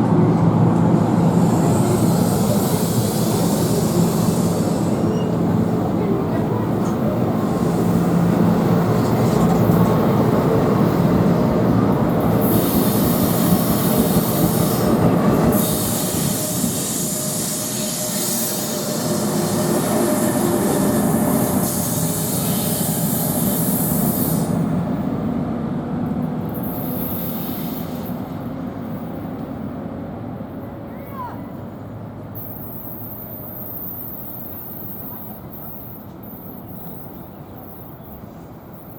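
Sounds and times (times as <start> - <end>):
train wheels rumbling: 0.0 - 38.7.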